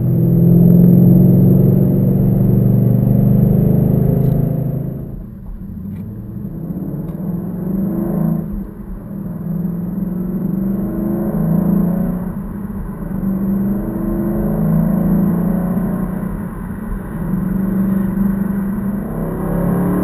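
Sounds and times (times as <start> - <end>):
car engine from inside cabin: 0.0 - 20.0.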